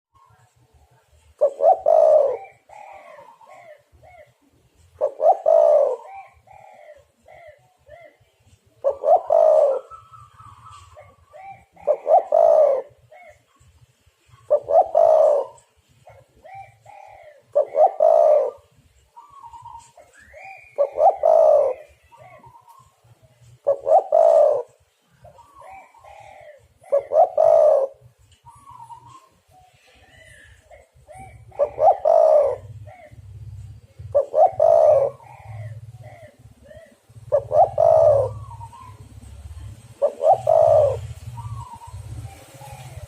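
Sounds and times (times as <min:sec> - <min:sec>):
dove cooing: 0:00.2 - 0:43.0.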